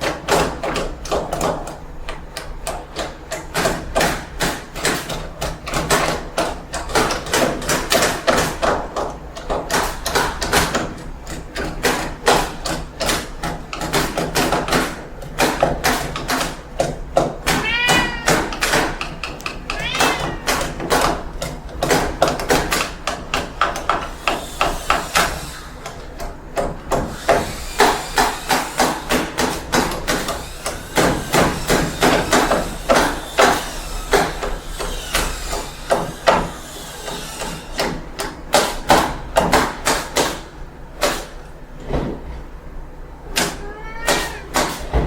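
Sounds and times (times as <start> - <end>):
hammering strikes: 2.6 - 41.4.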